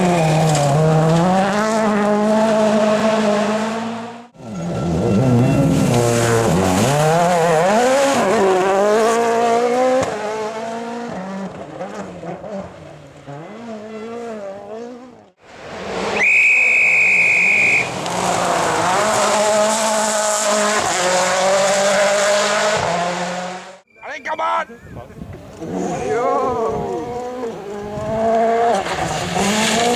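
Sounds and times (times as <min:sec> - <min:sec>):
rally car engine revving: 0:00.0 - 0:23.8, 0:25.4 - 0:29.9.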